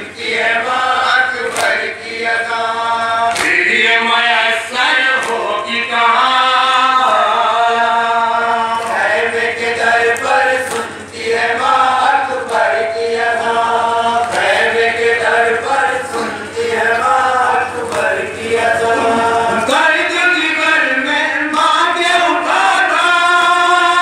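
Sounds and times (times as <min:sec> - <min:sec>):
men chanting in chorus: 0:00.0 - 0:24.0.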